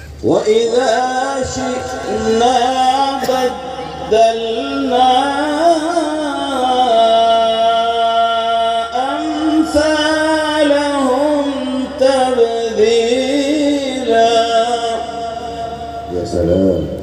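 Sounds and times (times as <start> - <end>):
man chanting recitation: 0.0 - 17.0.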